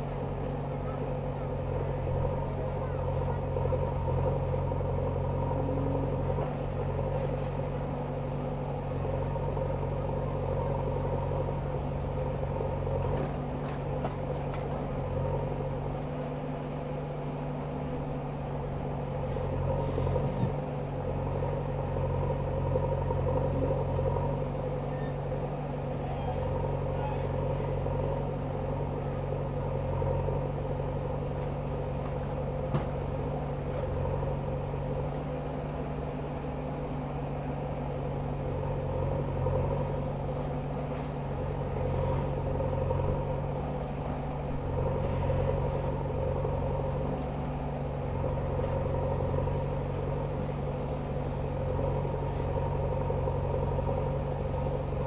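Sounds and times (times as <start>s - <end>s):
backhoe diesel engine working: 0.0s - 55.0s.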